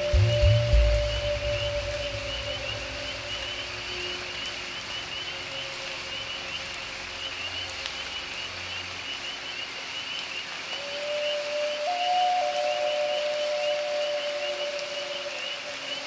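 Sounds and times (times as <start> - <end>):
rain-like hiss: 0.0 - 16.0.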